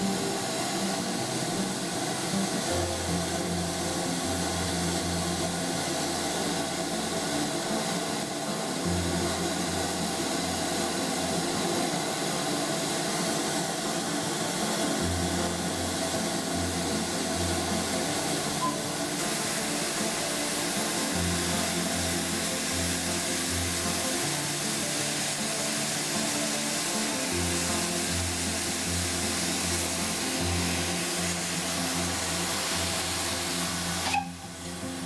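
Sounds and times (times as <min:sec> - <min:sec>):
steam hissing: 0:00.0 - 0:35.0.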